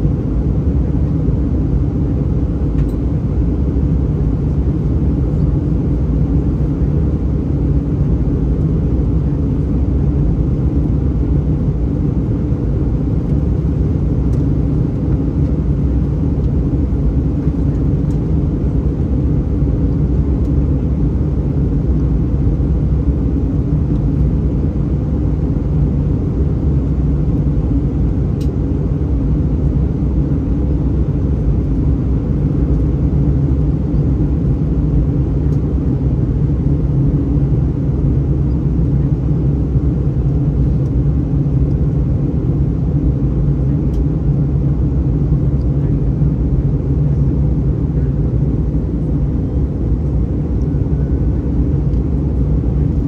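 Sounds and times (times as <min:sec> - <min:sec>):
airplane cabin engine rumble: 0:00.0 - 0:53.0.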